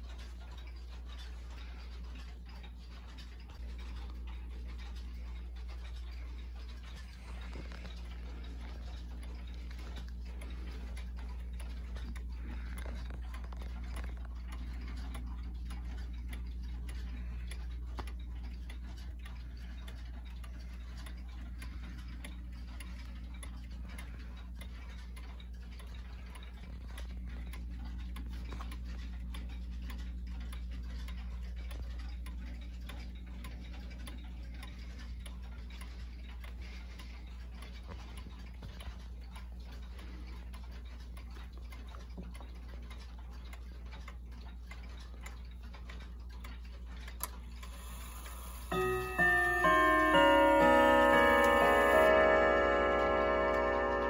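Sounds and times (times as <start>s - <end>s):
pendulum clock ticking: 0.0s - 54.0s
steady low hum: 0.0s - 54.0s.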